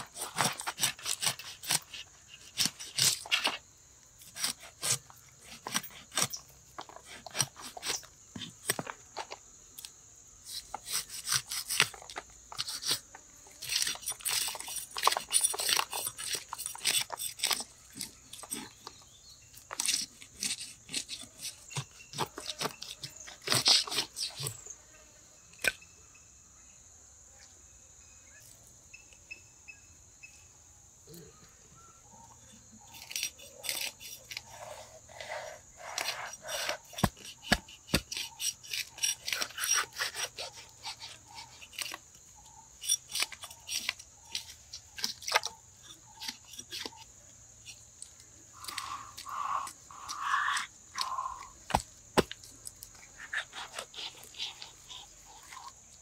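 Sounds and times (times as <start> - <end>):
scraping and crunching strokes: 0.0 - 24.6, 32.8 - 56.0.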